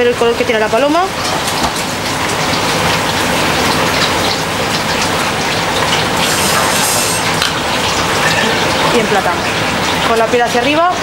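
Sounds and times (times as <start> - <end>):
griddle sizzling: 0.0 - 11.0.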